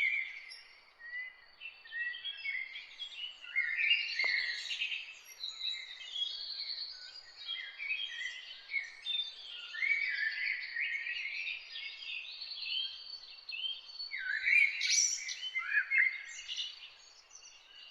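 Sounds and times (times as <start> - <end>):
songbirds singing and chirping: 0.0 - 17.9.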